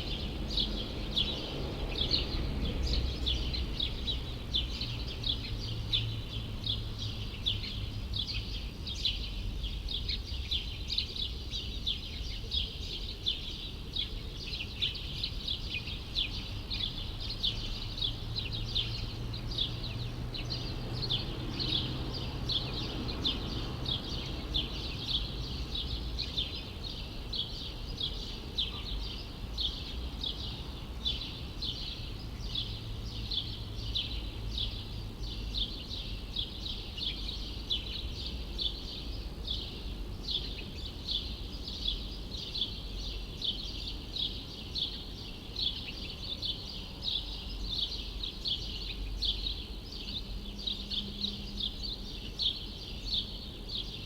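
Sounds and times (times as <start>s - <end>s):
low city hum: 0.0s - 54.0s
small birds chirping: 0.0s - 54.0s.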